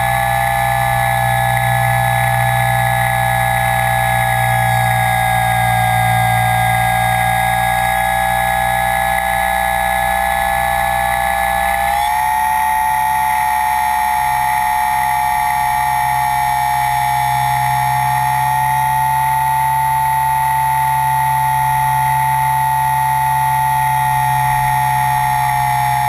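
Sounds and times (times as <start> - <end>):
aircraft motors and propellers whining: 0.0 - 26.0.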